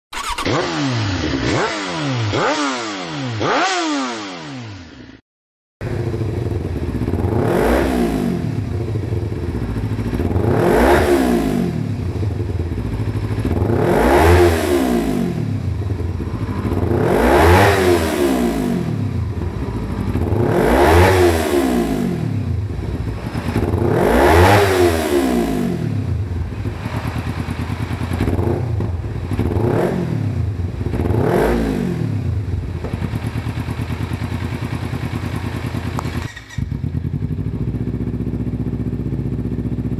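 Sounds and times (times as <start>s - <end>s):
motorcycle engine revving: 0.1s - 5.2s, 5.8s - 39.9s.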